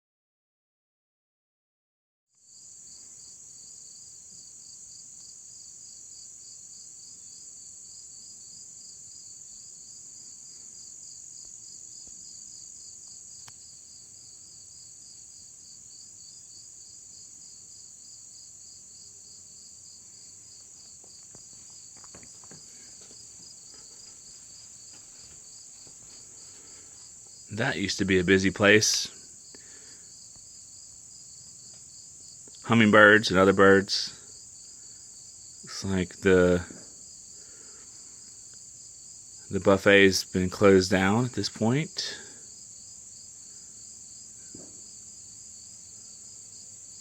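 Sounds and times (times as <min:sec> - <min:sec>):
insects buzzing trill: 0:02.5 - 0:47.0.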